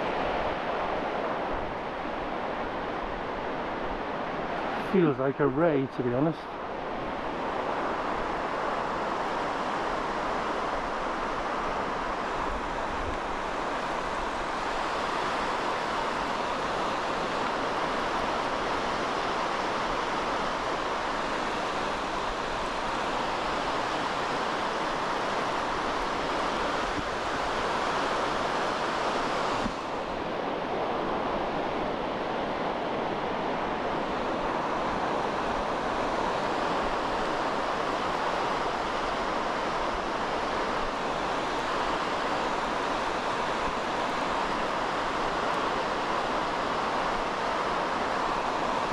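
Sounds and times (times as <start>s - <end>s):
small waves breaking: 0.0s - 48.9s.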